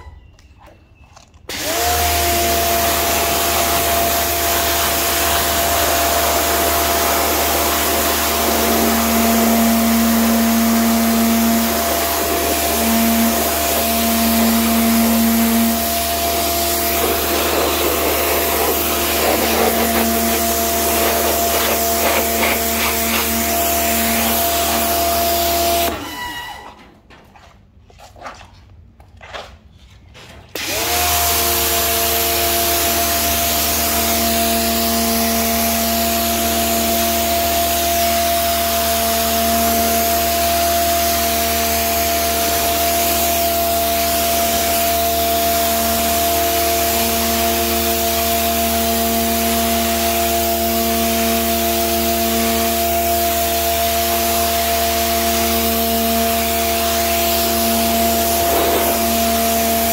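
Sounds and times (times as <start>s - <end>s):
pressure washer motor whine: 1.5s - 26.8s, 30.5s - 59.9s
water spray hissing on concrete: 2.2s - 25.9s, 35.2s - 59.9s.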